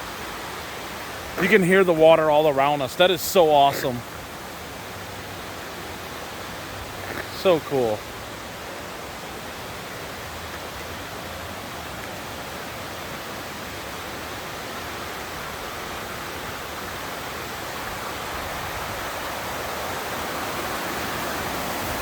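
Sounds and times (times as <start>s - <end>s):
waterfall and stream splashing: 0.0s - 22.0s.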